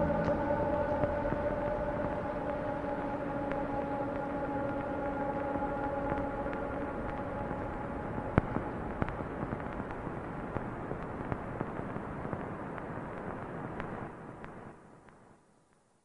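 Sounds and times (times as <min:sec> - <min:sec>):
crackles and pops: 0:00.0 - 0:16.0.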